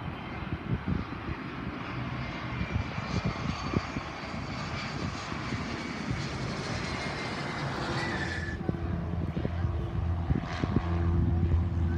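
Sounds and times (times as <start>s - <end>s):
jet engine hiss and whine: 0.0s - 11.9s.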